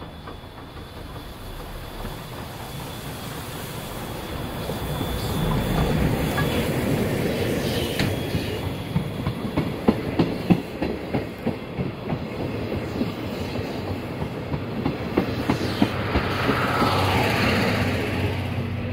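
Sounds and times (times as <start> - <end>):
train wheels clattering over rail joints: 0.0 - 16.6
steady train rumble: 0.0 - 18.9.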